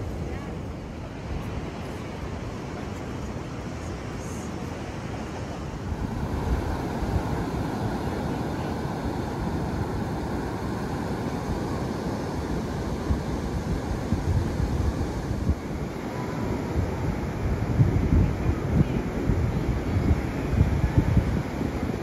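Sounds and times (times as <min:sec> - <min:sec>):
surf breaking on beach: 0:00.0 - 0:22.0
wind buffeting microphone: 0:00.0 - 0:22.0.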